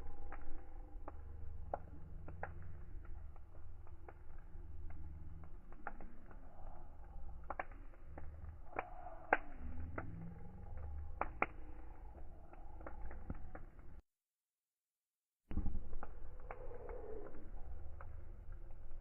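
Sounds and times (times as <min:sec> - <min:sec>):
low rumble of flames: 0:00.0 - 0:14.0, 0:15.5 - 0:19.0
wood fire crackling: 0:00.0 - 0:14.0, 0:15.5 - 0:19.0
sharp pops of fire: 0:00.2 - 0:06.4, 0:07.0 - 0:14.0, 0:15.5 - 0:18.2.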